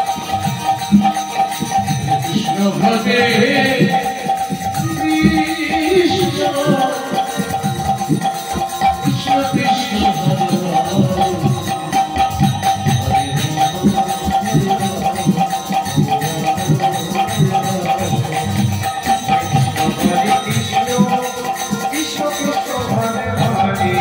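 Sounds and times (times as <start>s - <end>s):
jingling hand cymbals: 0.0s - 24.0s
rapid hand-drum strokes: 0.0s - 24.0s.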